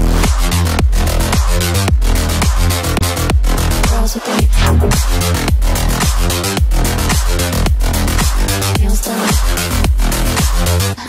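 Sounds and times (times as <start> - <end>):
electronic dance music: 0.0 - 10.8.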